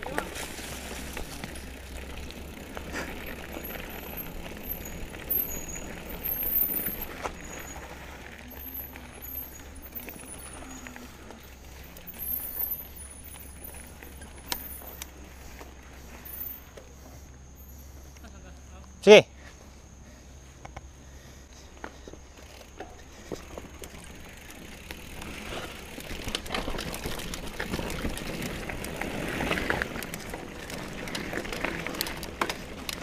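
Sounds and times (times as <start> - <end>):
bike tyre and wind rush: 0.0 - 18.1, 20.4 - 33.0
bike clicks and rattles: 0.0 - 18.3, 21.6 - 33.0.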